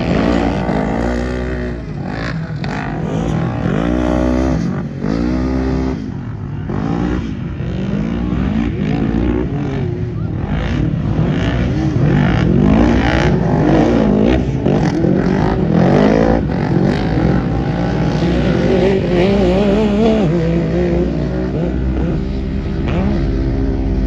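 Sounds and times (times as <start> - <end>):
racing vehicle engines revving: 0.0 - 24.0.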